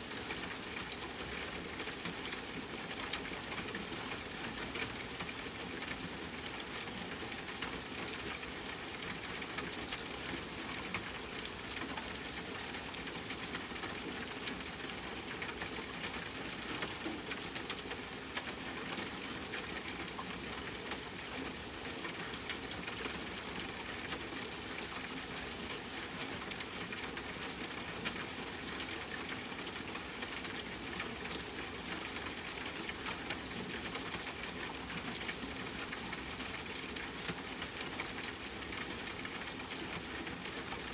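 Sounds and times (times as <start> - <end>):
raindrops clicking on surfaces: 0.0 - 40.9.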